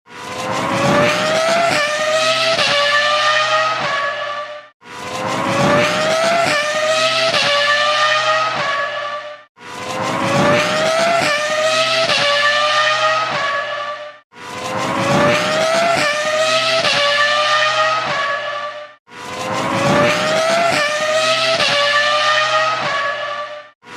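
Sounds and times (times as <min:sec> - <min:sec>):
racing car engine accelerating: 0:00.1 - 0:23.9.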